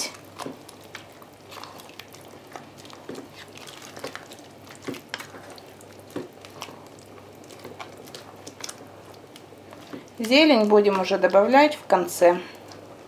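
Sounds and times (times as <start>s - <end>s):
spoon stirring thick stew: 0.1s - 11.9s.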